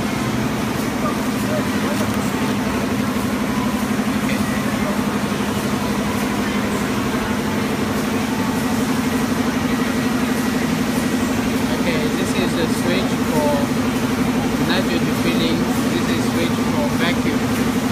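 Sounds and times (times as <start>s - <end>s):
sealing machine humming and fluttering: 0.0s - 17.9s.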